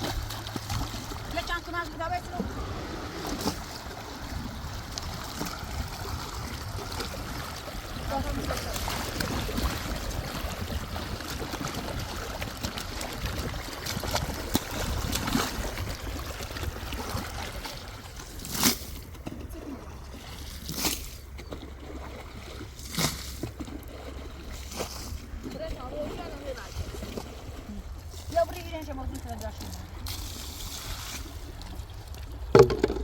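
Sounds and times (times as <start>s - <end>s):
sharp water splashes: 0.0s - 19.4s, 20.1s - 33.0s
water sloshing and trickling: 0.0s - 33.0s.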